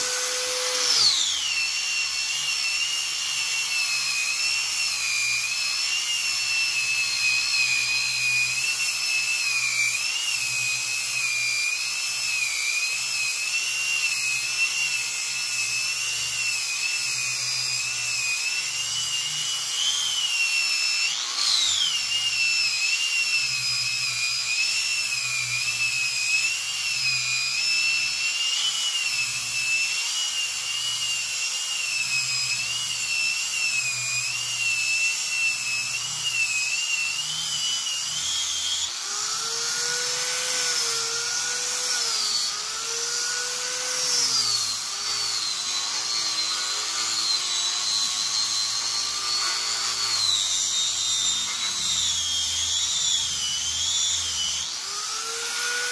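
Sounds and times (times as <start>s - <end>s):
power sander whining on wood: 0.0s - 55.9s.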